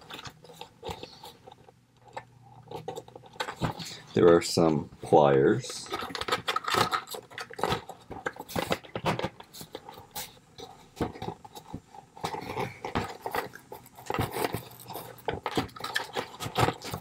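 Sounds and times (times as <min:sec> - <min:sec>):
plastic packaging clicks and crackles: 0:00.0 - 0:04.4, 0:05.6 - 0:17.0.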